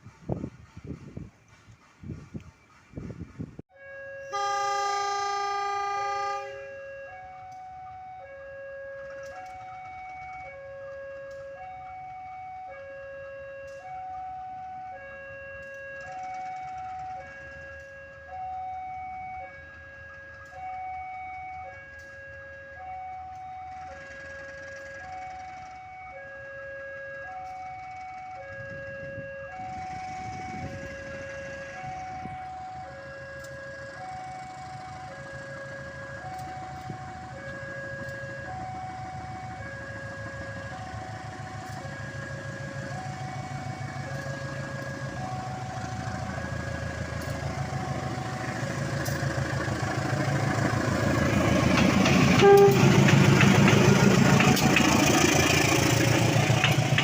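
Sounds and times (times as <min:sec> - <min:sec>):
diesel locomotive rumble: 0:00.0 - 0:57.0.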